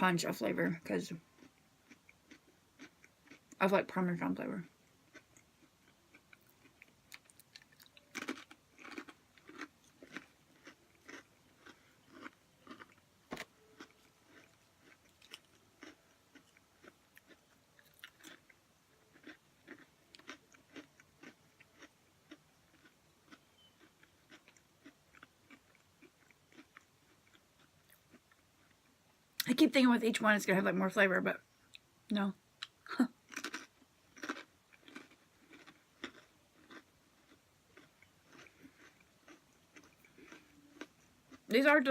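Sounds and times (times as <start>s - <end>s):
crunching of crisp crackers: 0.7s - 29.5s, 32.6s - 41.9s
crunchy chewing: 1.2s - 3.6s, 4.6s - 28.9s, 32.6s - 41.5s.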